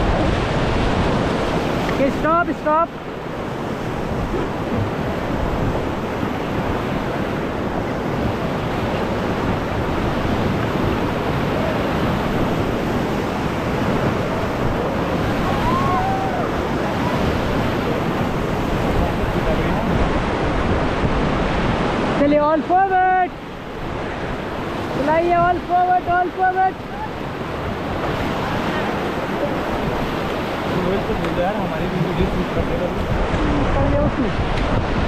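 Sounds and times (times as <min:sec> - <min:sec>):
river rapids roaring: 0:00.0 - 0:35.0
wind buffeting microphone: 0:00.0 - 0:35.0.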